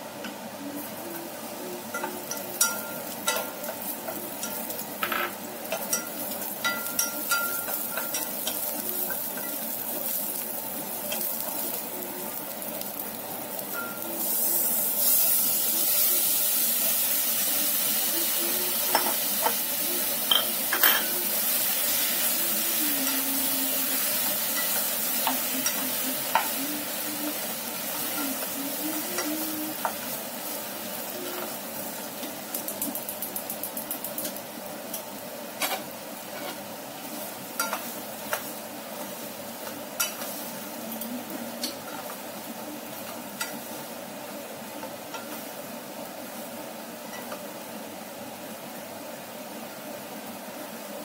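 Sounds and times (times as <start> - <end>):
tomatoes sizzling in a pan: 0.0 - 51.0.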